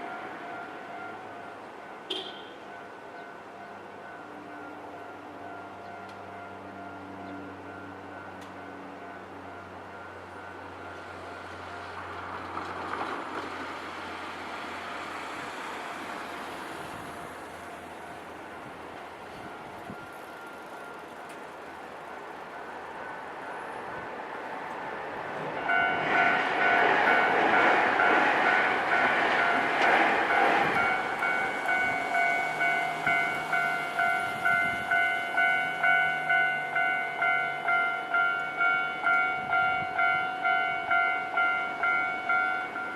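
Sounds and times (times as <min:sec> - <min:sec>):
level-crossing warning bell: 0:00.0 - 0:12.3, 0:14.0 - 0:24.5, 0:25.3 - 0:42.9.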